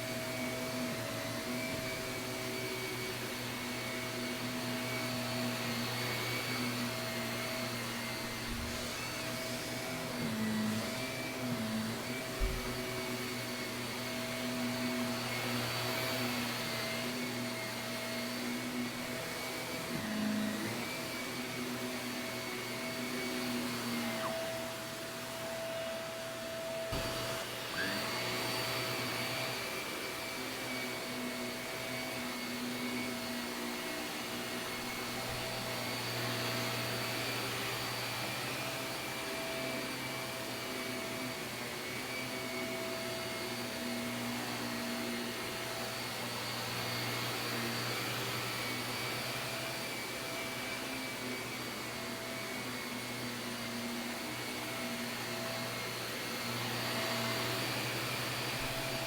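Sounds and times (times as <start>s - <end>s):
vacuum cleaner on carpet: 0.0s - 59.0s.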